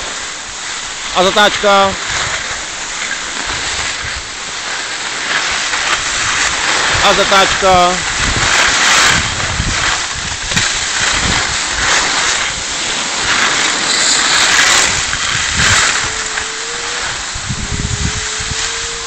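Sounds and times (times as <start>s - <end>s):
skis scraping over snow: 0.0s - 19.0s
wind rushing over microphone: 0.0s - 19.0s.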